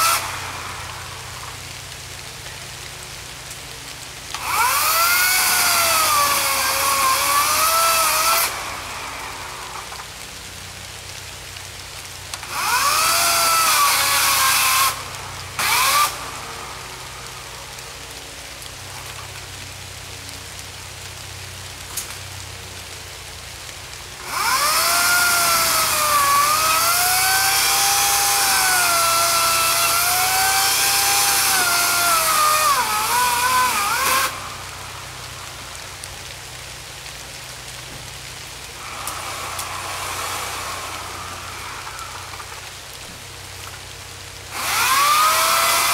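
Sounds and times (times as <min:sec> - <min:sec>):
electric chainsaw cutting wood: 0:00.0 - 0:45.9.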